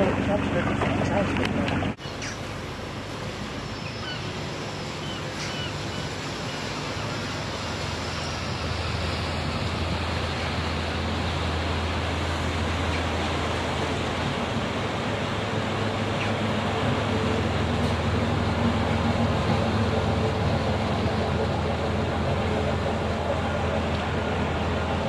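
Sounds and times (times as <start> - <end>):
boat engine humming: 0.0 - 25.0
water noise: 0.0 - 25.0
wind: 0.0 - 25.0.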